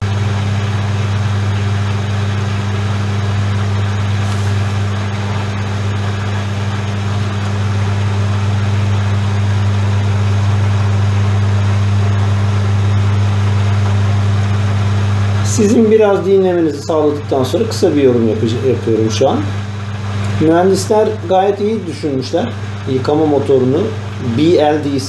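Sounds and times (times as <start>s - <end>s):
drain pump motor hum: 0.0s - 25.0s
water pumping: 0.0s - 25.0s.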